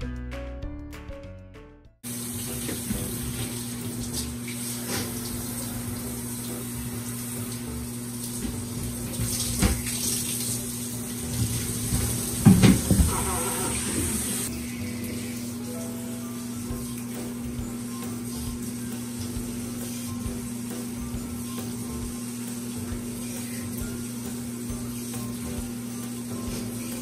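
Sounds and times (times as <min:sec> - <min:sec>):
music: 0:00.0 - 0:27.0
shower water spraying on floor: 0:02.0 - 0:27.0.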